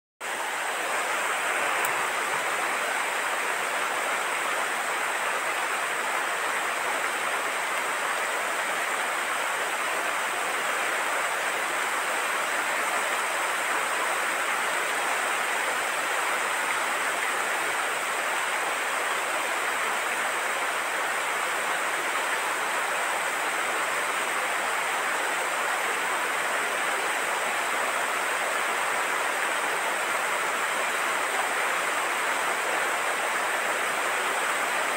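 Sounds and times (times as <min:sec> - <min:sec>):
heavy rain hissing: 0:00.2 - 0:34.9.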